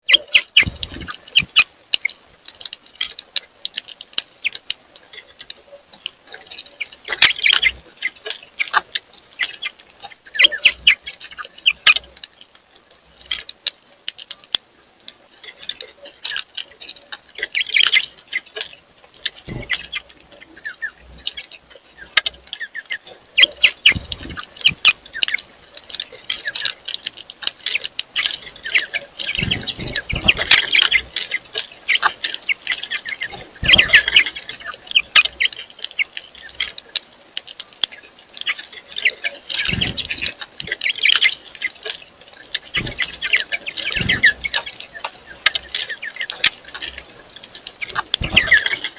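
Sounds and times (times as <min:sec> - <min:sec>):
small birds chirping: 0:00.0 - 0:48.9
sharp ticking clicks: 0:00.1 - 0:48.9.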